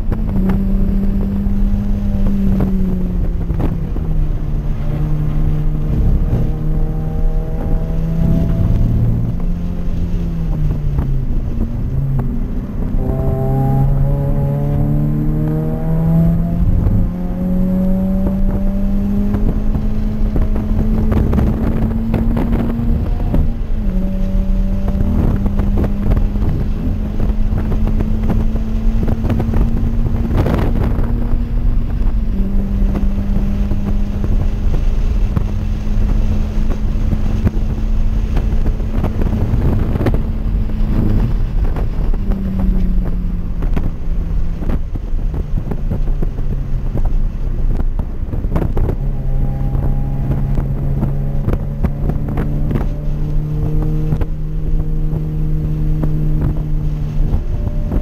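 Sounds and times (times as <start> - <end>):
car engine revving in cabin: 0.0 - 58.0
road and wind noise: 0.0 - 58.0.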